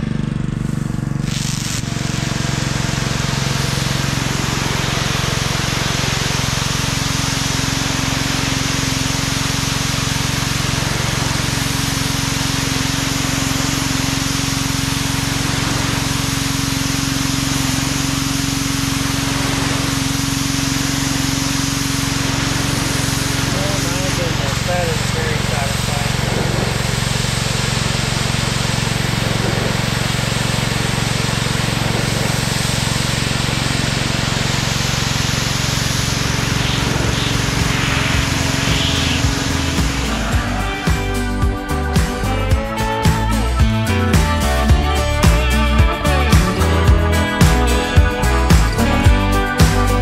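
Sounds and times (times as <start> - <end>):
pressure washer motor hum: 0.0 - 50.0
high-pressure water jet hiss: 1.2 - 50.0.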